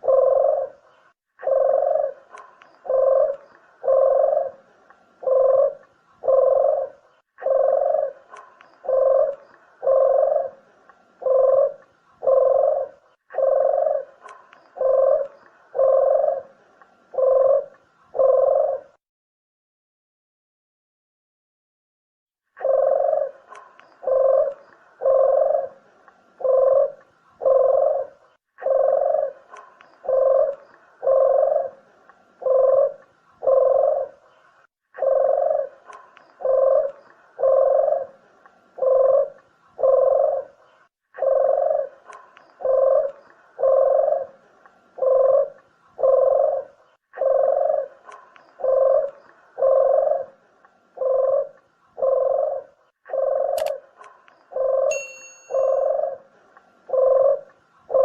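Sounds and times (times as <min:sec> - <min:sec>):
dove cooing: 0:00.0 - 0:19.0, 0:22.6 - 0:34.4, 0:35.0 - 0:58.0.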